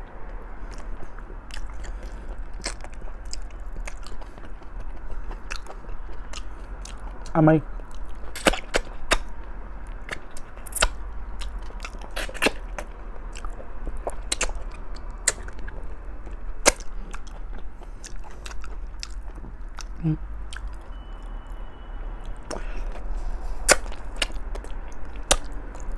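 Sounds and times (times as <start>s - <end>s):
steady low hum: 0.0s - 25.9s
wet chewing and mouth smacks: 0.2s - 21.0s, 22.2s - 25.9s.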